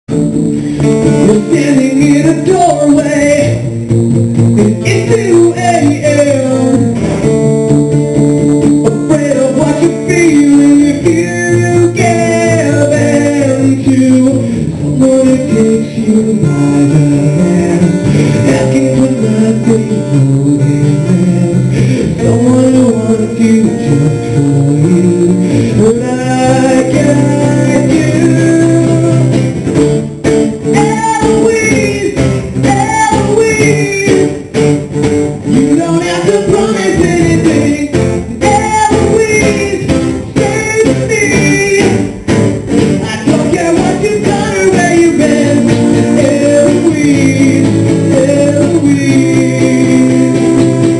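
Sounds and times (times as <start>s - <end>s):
acoustic guitars strummed: 0.1s - 50.9s
man singing into microphone: 0.6s - 29.6s, 30.6s - 34.6s, 35.4s - 42.3s, 43.0s - 50.9s.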